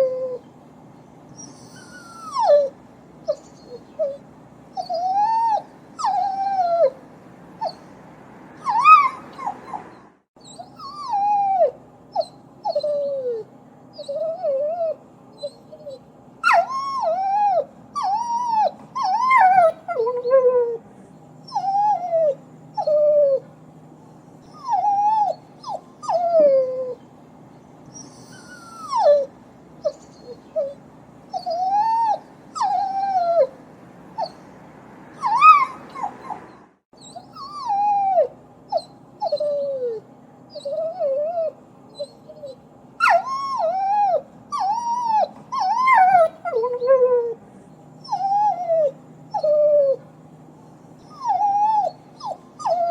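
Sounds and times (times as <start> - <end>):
dog whining and whimpering: 0.0 - 0.5, 1.3 - 7.0, 7.6 - 8.0, 8.6 - 20.8, 21.4 - 23.5, 24.2 - 47.4, 48.0 - 50.1, 50.9 - 52.9
faint steady hum: 0.0 - 52.9.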